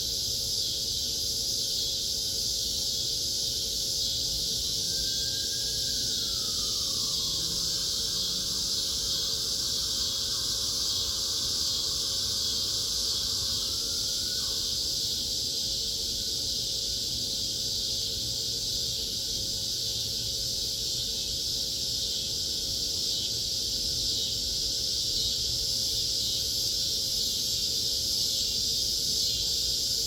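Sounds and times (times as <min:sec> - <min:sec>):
cicada chorus drone: 0:00.0 - 0:30.0.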